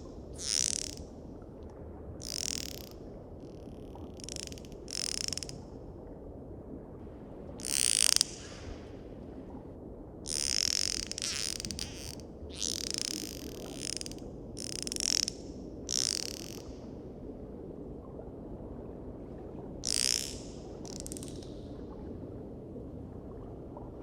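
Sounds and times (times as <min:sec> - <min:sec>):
low water hiss: 0:00.0 - 0:24.0.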